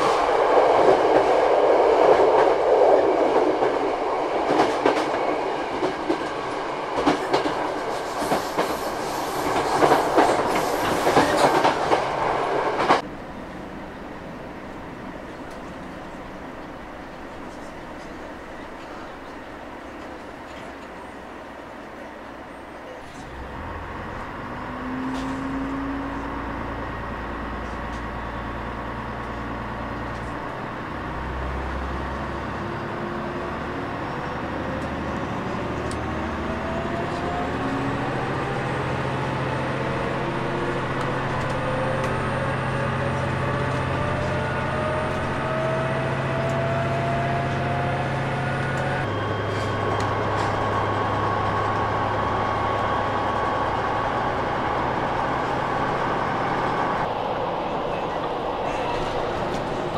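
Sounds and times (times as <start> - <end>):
railcar engine hum and whine: 0.0 - 59.9.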